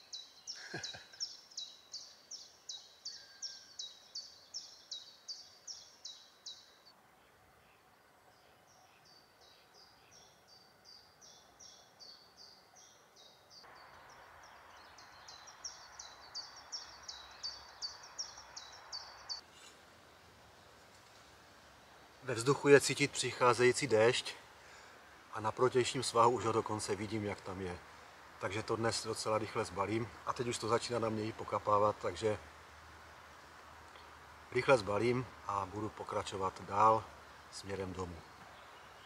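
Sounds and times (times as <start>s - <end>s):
songbird calling: 0.0s - 19.8s, 21.8s - 39.0s
steady background hiss: 0.0s - 39.0s.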